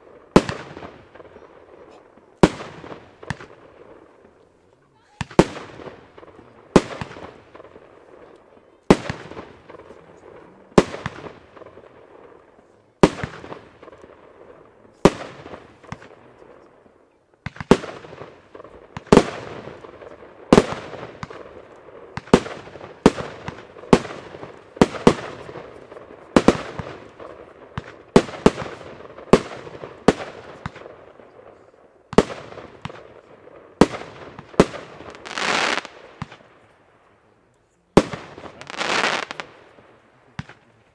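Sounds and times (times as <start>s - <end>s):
fireworks cake bangs: 0.0s - 4.4s, 5.0s - 12.4s, 13.0s - 16.2s, 17.4s - 36.5s.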